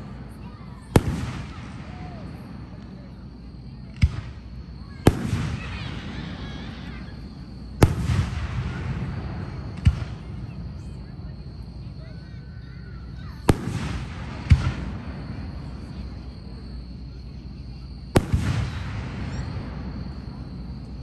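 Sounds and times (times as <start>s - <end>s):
fireworks bursting with bangs: 0.0s - 21.0s
fireworks crackle: 0.0s - 21.0s.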